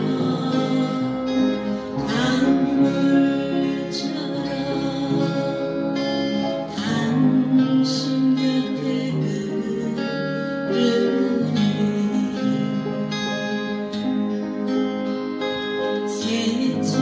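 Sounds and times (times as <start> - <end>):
acoustic guitar music: 0.0 - 17.0
upright piano playing: 0.0 - 17.0.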